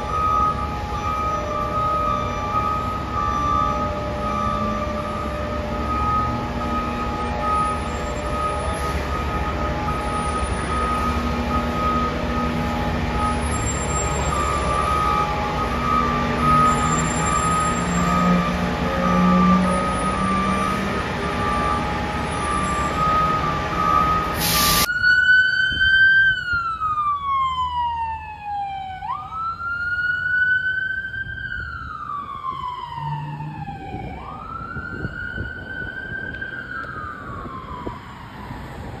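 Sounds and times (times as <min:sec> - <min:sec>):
electronic siren wailing: 0:00.0 - 0:38.6.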